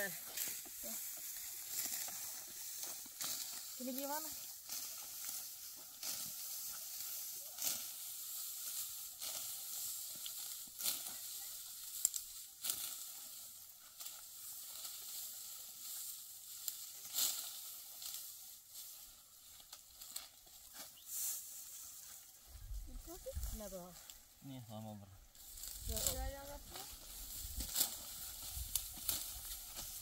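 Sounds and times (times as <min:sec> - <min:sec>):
dry wheat stalks rustling: 0:00.0 - 0:30.0.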